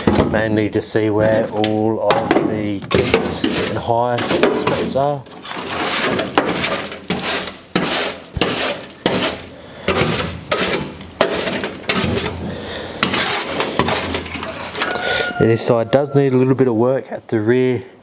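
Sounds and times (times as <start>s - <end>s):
brush scraping metal floor: 1.0s - 16.5s.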